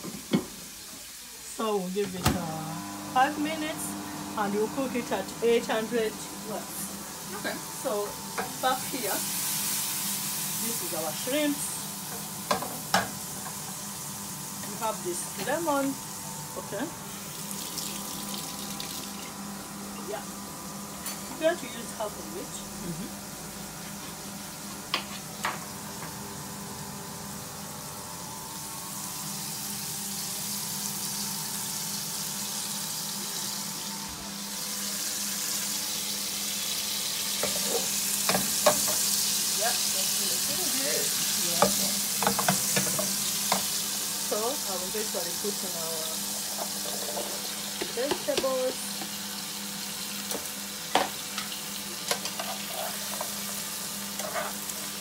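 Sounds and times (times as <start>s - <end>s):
shrimp sizzling in a pan: 0.0s - 55.0s.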